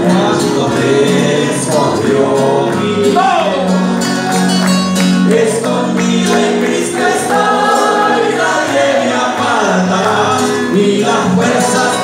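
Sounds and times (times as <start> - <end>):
voices singing together: 0.0 - 12.0.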